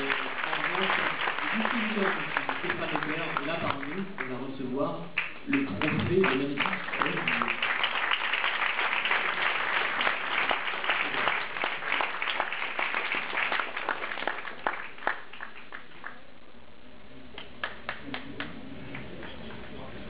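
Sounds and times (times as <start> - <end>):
audience applauding: 0.0 - 16.3, 17.4 - 19.9.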